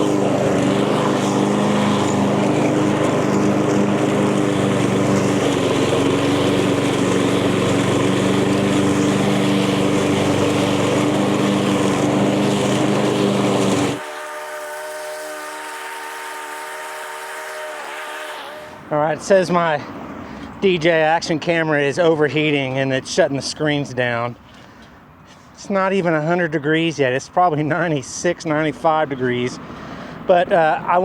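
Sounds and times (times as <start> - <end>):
lawn mower engine running: 0.0 - 24.3, 25.8 - 31.0.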